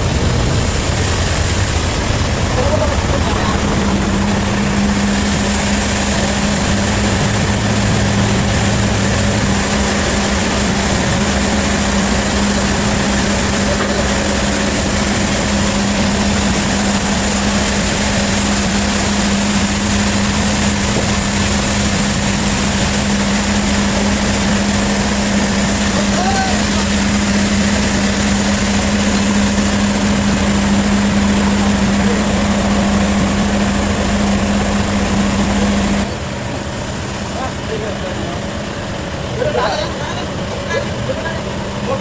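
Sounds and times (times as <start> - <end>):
sawmill machinery running: 0.0 - 42.0.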